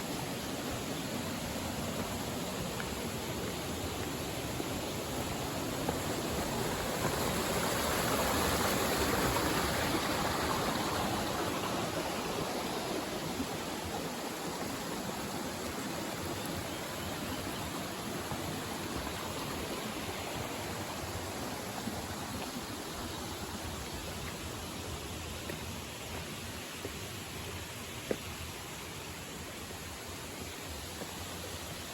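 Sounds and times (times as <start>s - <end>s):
mountain stream flowing: 0.0s - 31.9s.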